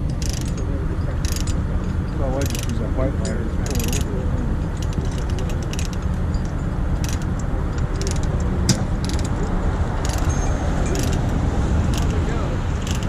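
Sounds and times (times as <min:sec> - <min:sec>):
diesel truck engine running: 0:00.0 - 0:13.0
rigging chain clinking: 0:00.0 - 0:13.0.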